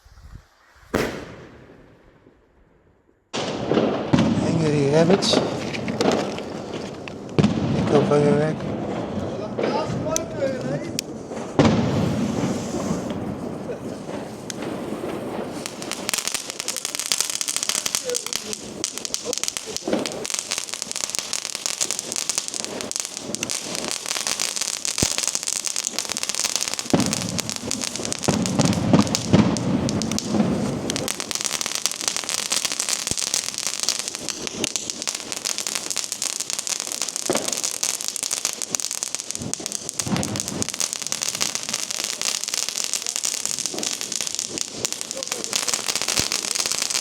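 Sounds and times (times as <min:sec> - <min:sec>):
firework pops and rumble: 0:00.9 - 0:02.0, 0:03.4 - 0:47.0
crackling firework battery: 0:03.4 - 0:47.0.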